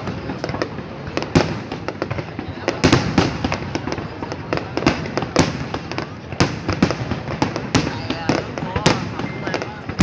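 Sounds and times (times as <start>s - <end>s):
fireworks bangs and crackles: 0.0s - 10.0s
loud fireworks booms: 0.0s - 10.0s.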